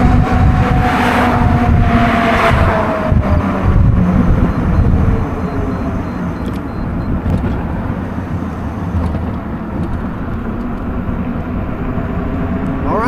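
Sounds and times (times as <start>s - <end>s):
wind rushing: 0.0s - 12.6s
road noise: 0.0s - 13.0s.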